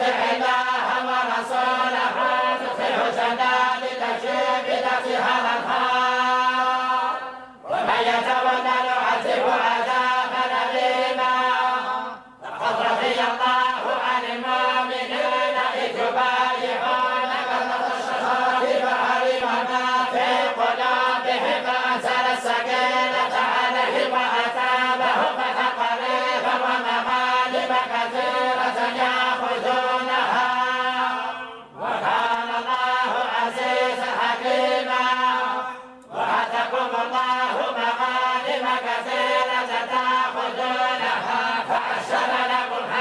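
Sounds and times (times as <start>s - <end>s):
group chanting in unison: 0.0s - 43.0s.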